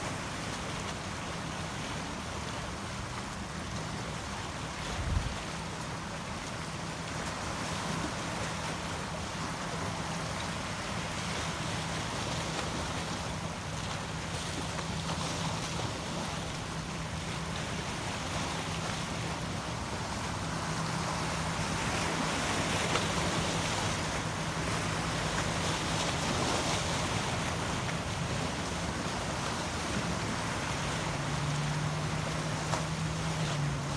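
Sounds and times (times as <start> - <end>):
ocean waves washing: 0.0 - 33.9.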